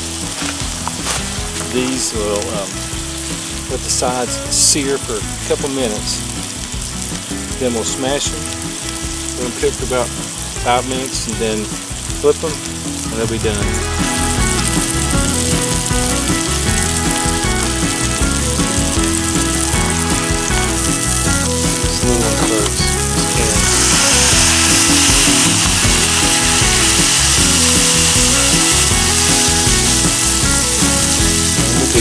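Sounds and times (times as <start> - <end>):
background music: 0.0 - 32.0
meat sizzling on griddle: 0.0 - 32.0.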